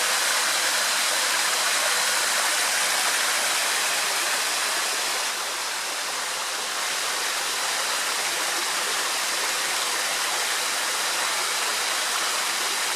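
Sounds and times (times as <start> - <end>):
small waterfall splashing: 0.0 - 12.9.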